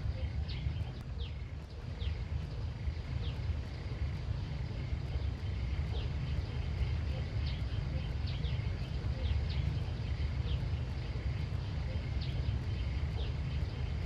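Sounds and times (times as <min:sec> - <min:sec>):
bird chirping: 0:00.0 - 0:14.0
faint high insect-like drone: 0:00.0 - 0:14.0
low rumble: 0:00.0 - 0:14.0.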